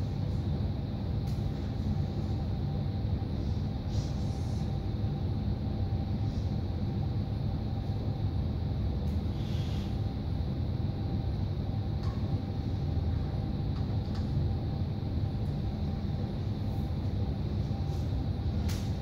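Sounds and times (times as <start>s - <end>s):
low room rumble with hum: 0.0s - 19.0s.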